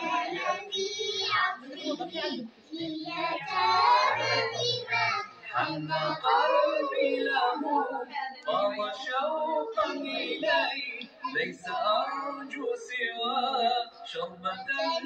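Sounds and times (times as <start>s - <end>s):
young girls singing: 0.0s - 13.6s, 14.6s - 15.0s.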